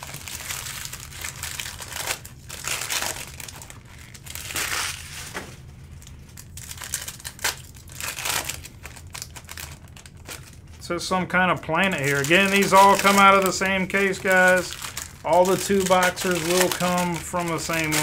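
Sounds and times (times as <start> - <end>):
card pack wrappers crinkling and tearing: 0.0 - 18.0.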